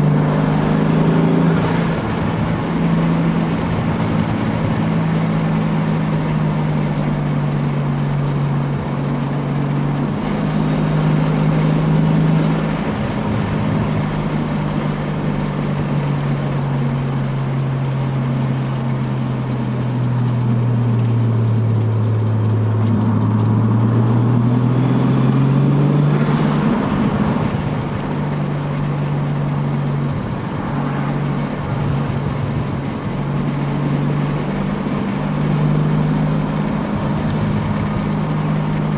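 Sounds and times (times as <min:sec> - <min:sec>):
car engine running while driving: 0:00.0 - 0:38.9.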